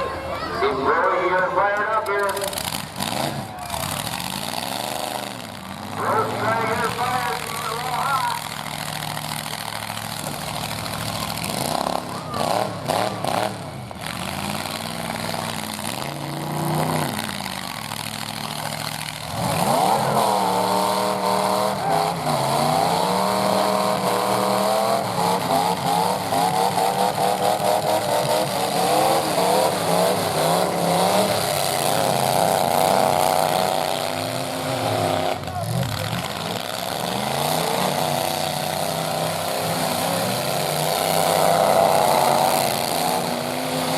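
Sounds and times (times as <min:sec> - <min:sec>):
truck engines running: 0:00.0 - 0:43.9
engine revving hard: 0:02.4 - 0:09.5, 0:10.2 - 0:17.4, 0:18.2 - 0:43.9.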